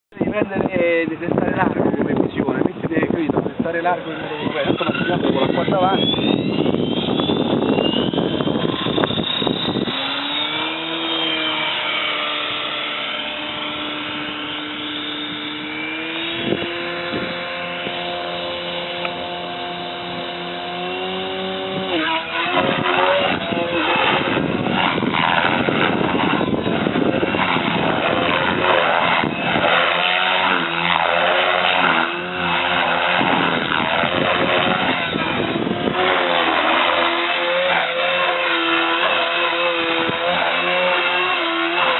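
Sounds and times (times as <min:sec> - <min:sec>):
rc helicopter motor whine: 0:00.2 - 0:41.9.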